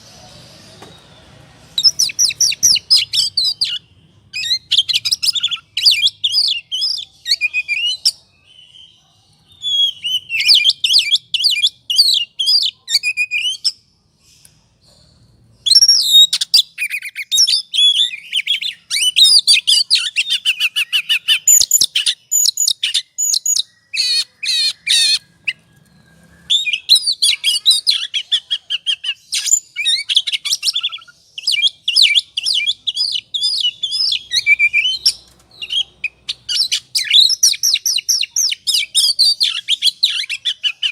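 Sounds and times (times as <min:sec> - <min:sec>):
bird whistles and trills: 0:00.6 - 0:40.9.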